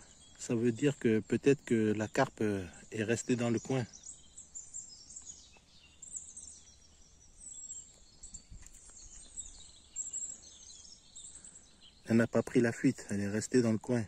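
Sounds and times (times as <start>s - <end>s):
small birds chirping and twittering: 0.0s - 14.0s.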